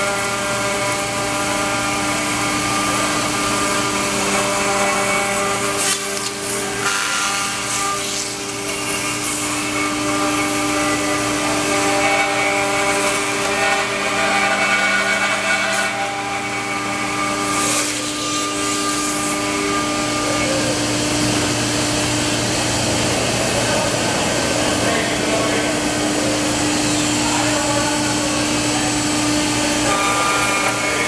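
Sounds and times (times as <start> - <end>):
router bit cutting wood: 0.0 - 31.0
router spindle whine: 0.0 - 31.0.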